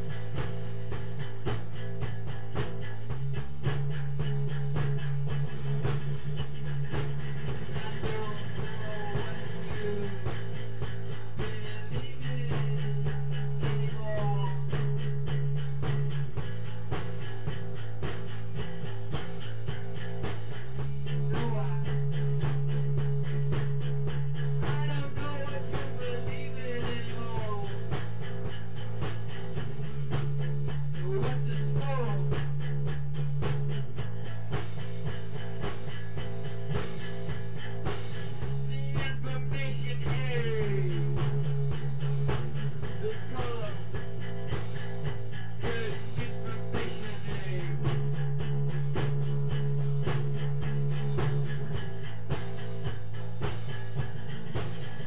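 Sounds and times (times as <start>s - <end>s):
instrumental rock jam: 0.0s - 55.0s.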